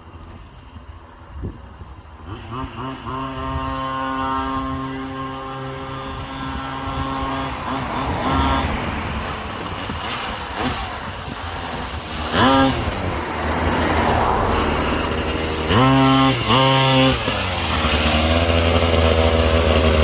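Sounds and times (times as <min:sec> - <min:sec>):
small engine revving: 0:02.0 - 0:20.0.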